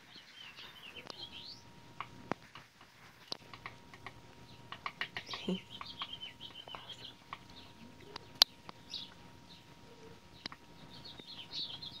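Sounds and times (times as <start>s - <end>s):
woodpecker calling: 0.0s - 12.0s.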